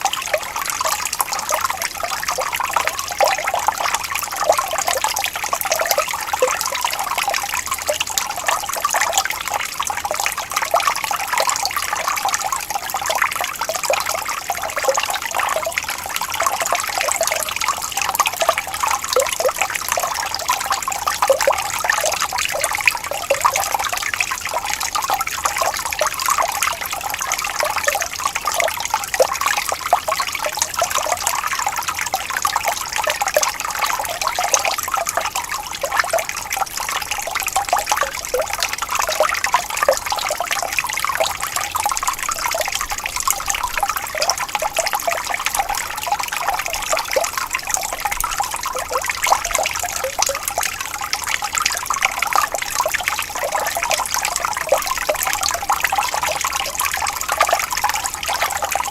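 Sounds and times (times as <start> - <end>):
stream trickling over stones: 0.0 - 58.9.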